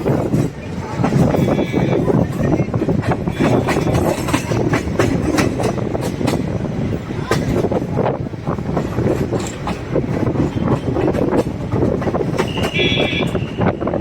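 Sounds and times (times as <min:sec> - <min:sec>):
wheel clacks over rail joints: 0:00.0 - 0:13.9
train rumbling on rails: 0:00.0 - 0:14.0.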